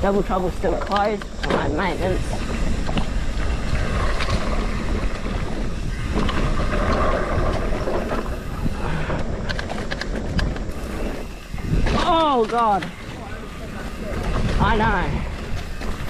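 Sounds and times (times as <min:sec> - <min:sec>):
rumble of bike tyres: 0:00.0 - 0:16.0
sharp rattles and clicks: 0:00.0 - 0:16.0
wind buffeting microphone: 0:00.0 - 0:16.0.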